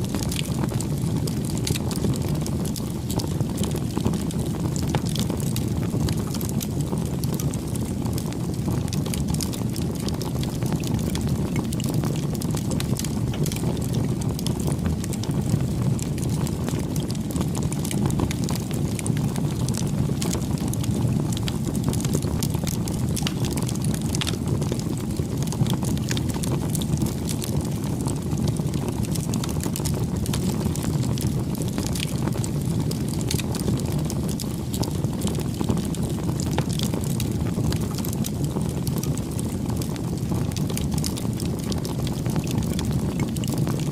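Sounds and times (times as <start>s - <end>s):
low rush of flame: 0.0s - 43.9s
wood fire crackling: 0.0s - 43.9s.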